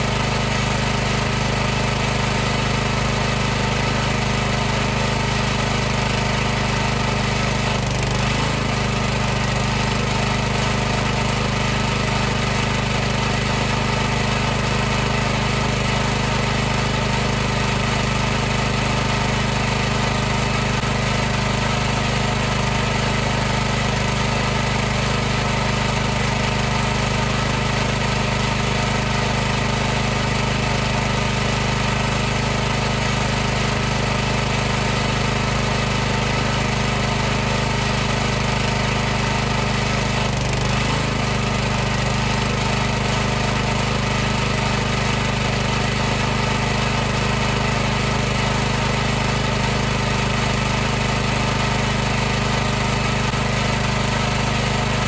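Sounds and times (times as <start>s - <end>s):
pressure washer running: 0.0s - 55.0s.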